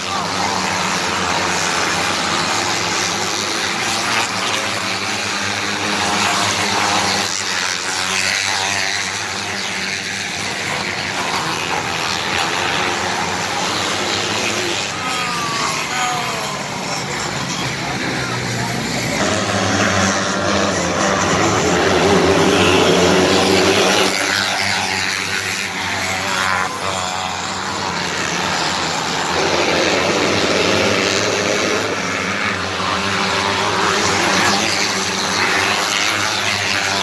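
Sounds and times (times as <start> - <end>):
race car engines at high revs: 0.0 - 37.0.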